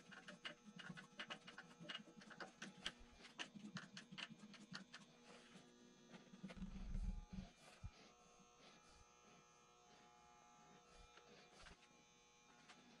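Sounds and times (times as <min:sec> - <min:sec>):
faint electrical whine: 0:00.0 - 0:13.0.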